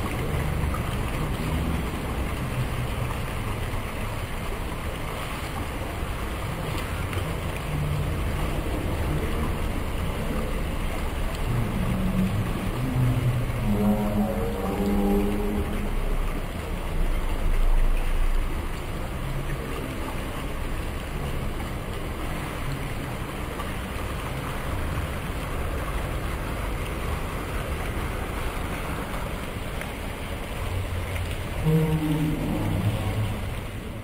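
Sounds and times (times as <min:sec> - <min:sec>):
fountain water splashing into pond: 0:00.0 - 0:34.0.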